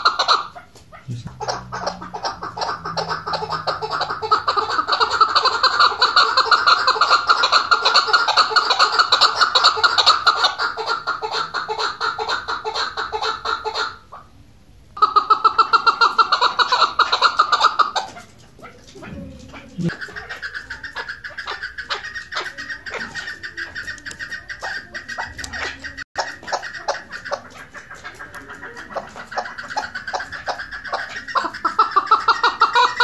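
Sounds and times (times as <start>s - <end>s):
partridge chattering call: 0.0s - 14.3s, 15.0s - 33.0s.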